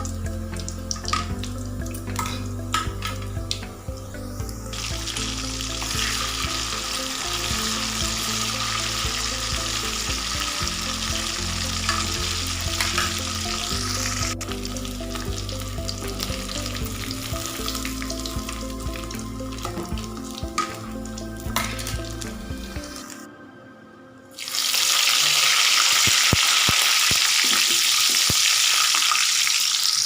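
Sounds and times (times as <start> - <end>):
batter deep-frying in oil: 4.6 - 23.1, 24.4 - 30.0.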